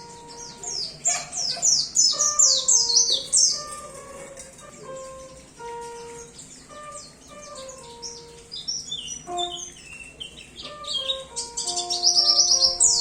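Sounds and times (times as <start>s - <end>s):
background music low notes: 0.0s - 13.0s
bird chirping and twittering: 0.0s - 13.0s.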